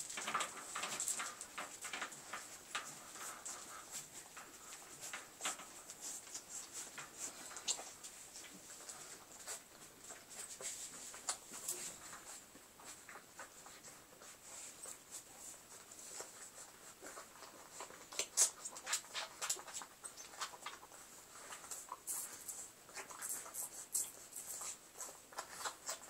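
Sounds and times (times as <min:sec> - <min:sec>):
puppies suckling clicks: 0:00.1 - 0:26.0.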